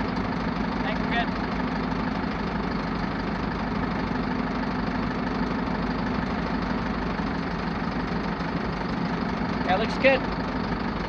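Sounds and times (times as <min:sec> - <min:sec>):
farm machinery engine idling: 0:00.0 - 0:11.0.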